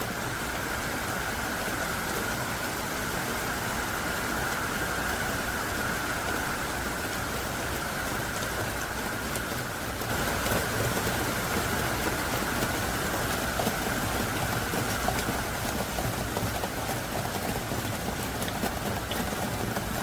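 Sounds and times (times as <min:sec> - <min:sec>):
heavy rain downpour: 0:00.0 - 0:20.0.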